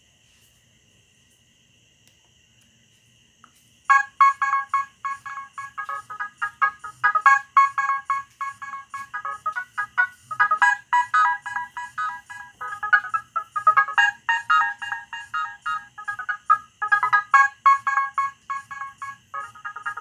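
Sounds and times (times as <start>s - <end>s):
mobile phone ringtone: 3.9s - 20.0s.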